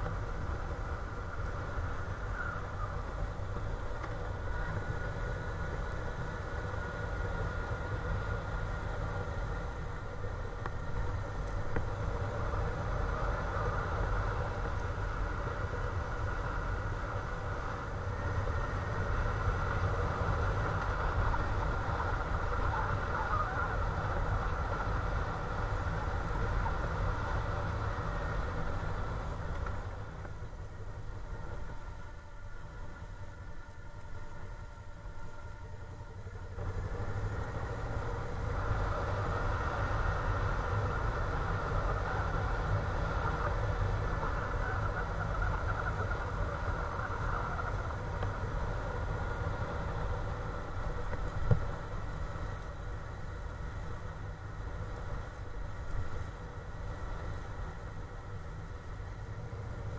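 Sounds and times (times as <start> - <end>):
motorcycle engine running: 0.0 - 31.8, 35.3 - 59.9.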